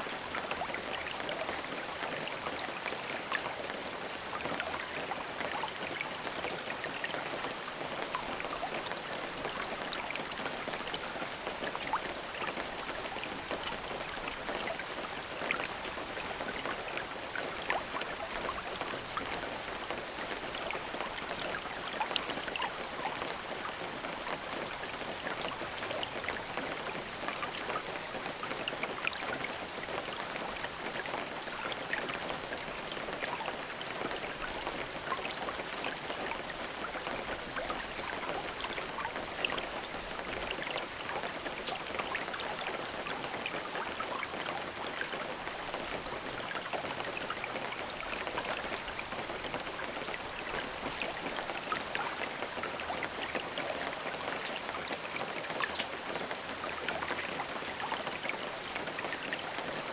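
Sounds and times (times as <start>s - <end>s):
steady rain falling: 0.0s - 59.9s
raindrops ticking: 7.8s - 57.7s.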